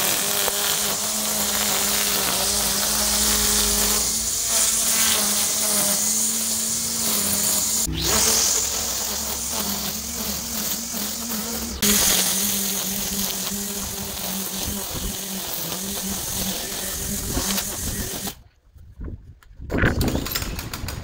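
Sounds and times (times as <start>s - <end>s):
string trimmer motor whining: 0.0s - 18.4s.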